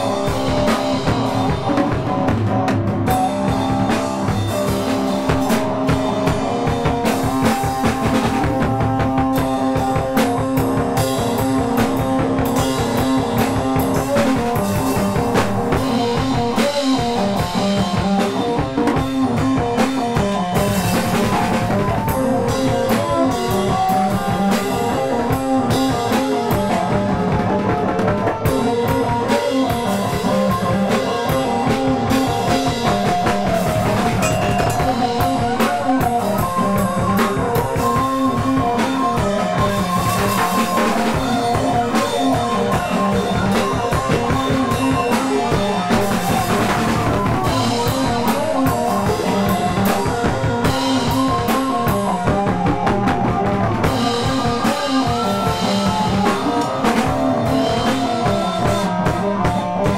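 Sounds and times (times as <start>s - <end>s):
drum kit beat: 0.0s - 59.9s
guitar: 0.0s - 59.9s
rock music: 0.0s - 59.9s.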